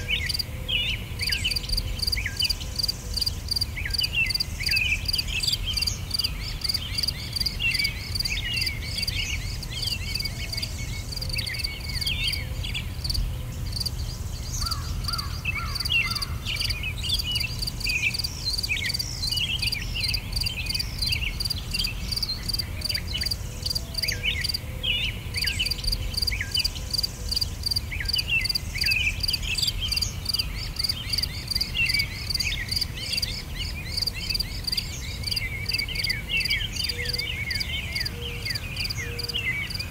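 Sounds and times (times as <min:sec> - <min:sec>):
insects chirping: 0:00.0 - 0:00.5, 0:01.2 - 0:24.6, 0:25.4 - 0:39.9
birds chirping: 0:00.0 - 0:39.9
low background noise: 0:00.0 - 0:39.9.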